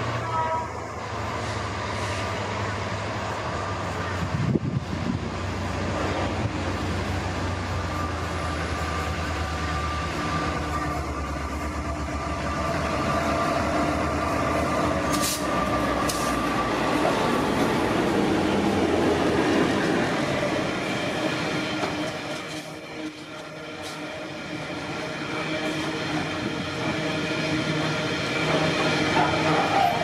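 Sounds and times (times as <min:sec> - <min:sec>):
diesel locomotive engine drone: 0:00.0 - 0:30.0
wheels rumbling on rails: 0:00.0 - 0:30.0.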